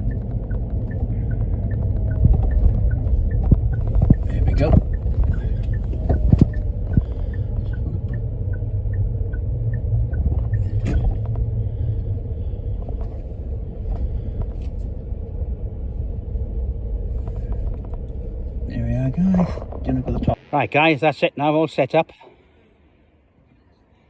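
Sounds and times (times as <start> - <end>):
faint regular ticking: 0.0 - 20.4
car engine and road rumble: 0.0 - 21.0.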